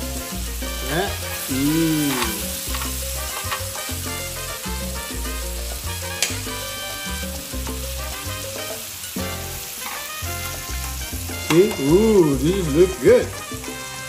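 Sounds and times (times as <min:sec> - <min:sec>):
meat sizzling on grill pan: 0:00.0 - 0:14.0
upbeat music with bass beat: 0:00.0 - 0:14.0.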